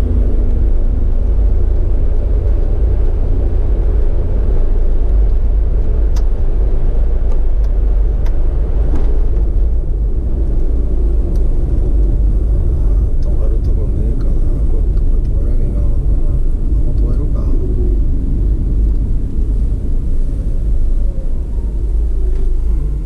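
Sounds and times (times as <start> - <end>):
car driving through tunnel: 0.0 - 23.0.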